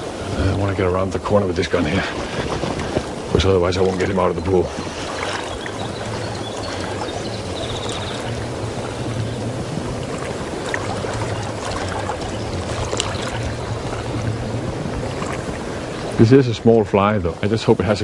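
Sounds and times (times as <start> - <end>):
steady low hum: 0.0 - 17.6
river water rushing: 0.0 - 18.0.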